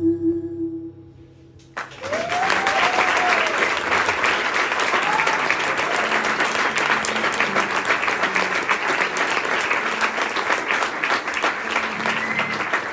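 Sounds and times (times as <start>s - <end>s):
audience applauding: 1.7s - 12.9s.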